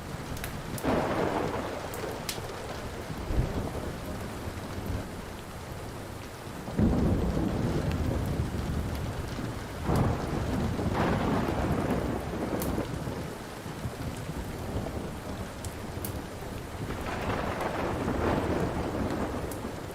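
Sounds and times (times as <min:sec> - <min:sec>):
steady rain: 0:00.0 - 0:19.9
wood fire crackling: 0:00.0 - 0:19.9
rolling thunder: 0:00.7 - 0:05.3, 0:06.7 - 0:19.9.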